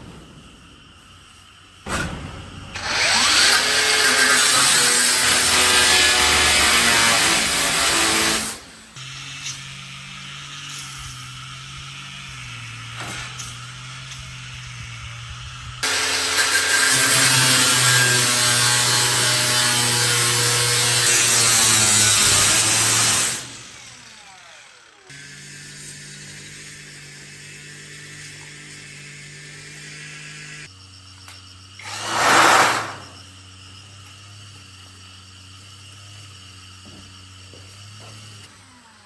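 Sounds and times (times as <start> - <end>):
power tool running: 2.7 - 39.0.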